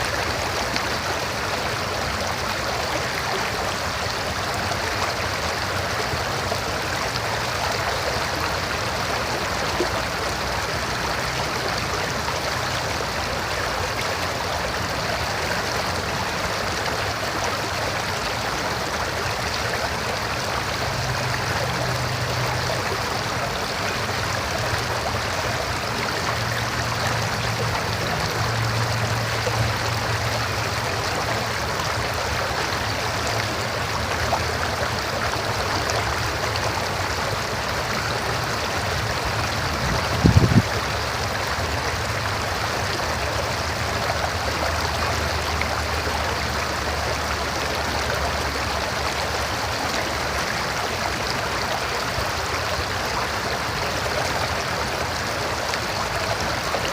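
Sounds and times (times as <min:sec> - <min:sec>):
river water flowing: 0:00.0 - 0:56.9.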